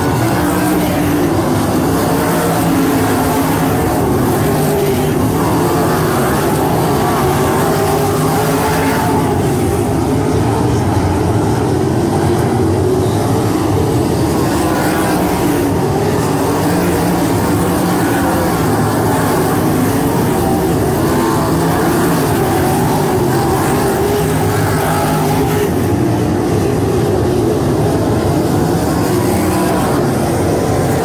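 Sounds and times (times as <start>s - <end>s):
racing car engines: 0.0s - 31.0s.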